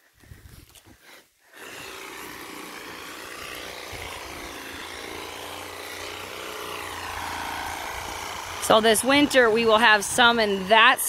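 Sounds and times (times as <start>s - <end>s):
power saw cutting wood: 1.5s - 11.0s
low hum: 1.7s - 11.0s.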